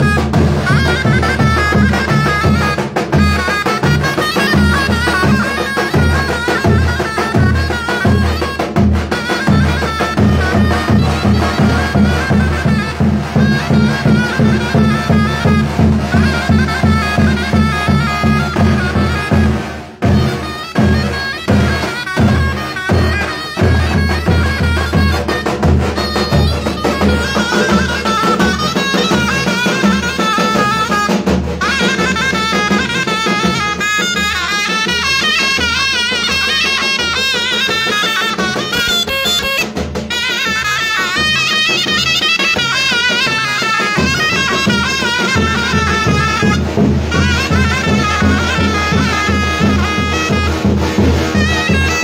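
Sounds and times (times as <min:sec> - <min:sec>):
drum beat: 0:00.0 - 0:52.0
shrill reed pipes melody: 0:00.0 - 0:52.0.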